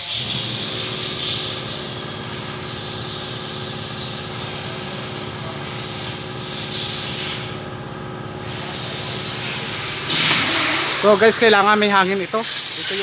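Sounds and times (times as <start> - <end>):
compressed air hissing: 0.0 - 13.0
faint machine hum: 0.0 - 13.0.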